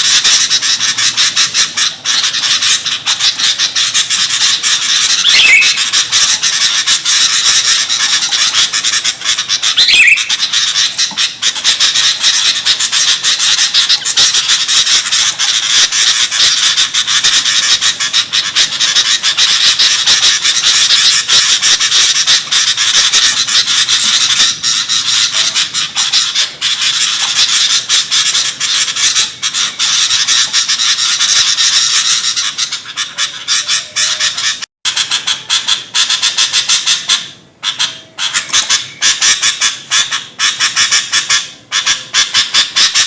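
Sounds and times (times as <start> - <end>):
bulbuls calling noisily: 0.0 - 43.0.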